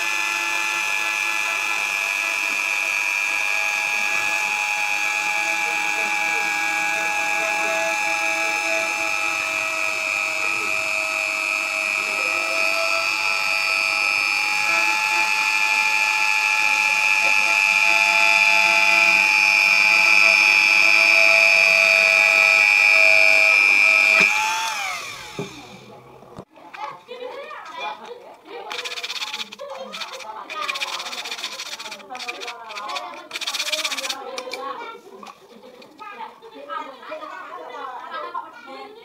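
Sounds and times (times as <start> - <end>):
rotary tool whining: 0.0 - 26.8, 27.6 - 36.1.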